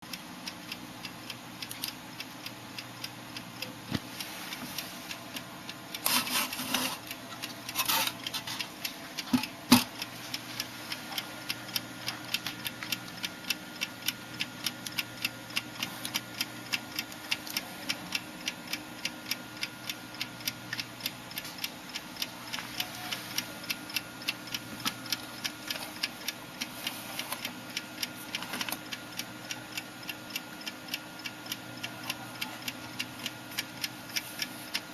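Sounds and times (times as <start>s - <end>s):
alarm clock ticking: 0.1s - 34.9s.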